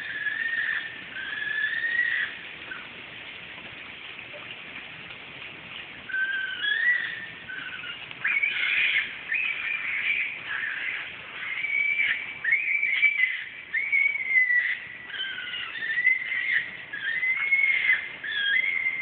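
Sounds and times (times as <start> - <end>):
animal high-pitched cries: 0.0 - 2.4, 6.1 - 19.0
microphone hiss: 0.0 - 19.0.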